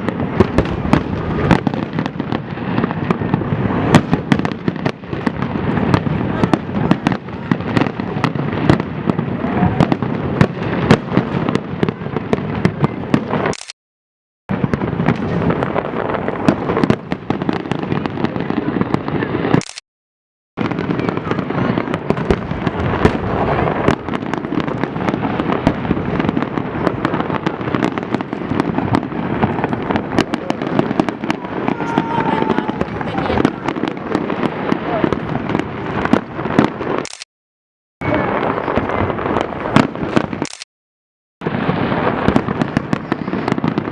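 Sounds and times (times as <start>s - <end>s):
fireworks bangs and crackling: 0.0s - 13.7s, 14.5s - 19.8s, 20.6s - 37.2s, 38.0s - 40.7s, 41.4s - 43.9s.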